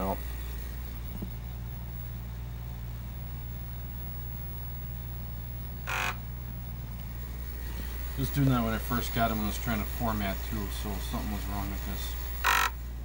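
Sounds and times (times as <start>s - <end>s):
floppy drive humming: 0.0s - 13.0s.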